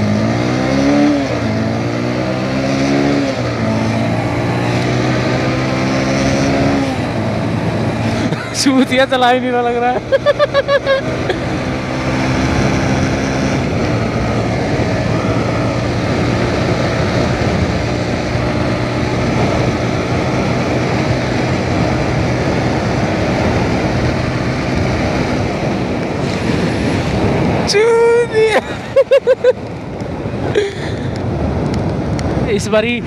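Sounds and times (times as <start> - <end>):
motorcycle engine hum: 0.0 - 33.0
wind rush on microphone: 0.0 - 33.0.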